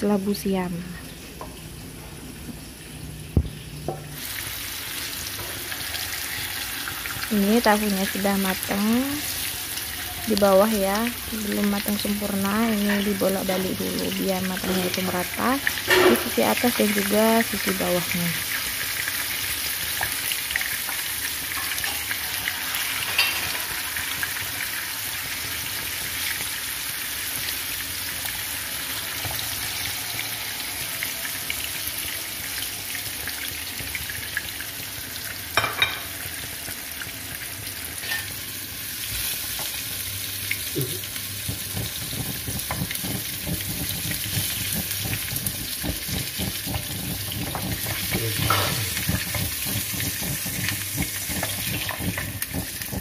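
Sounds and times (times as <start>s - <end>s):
tofu deep-frying in oil: 3.3s - 53.0s.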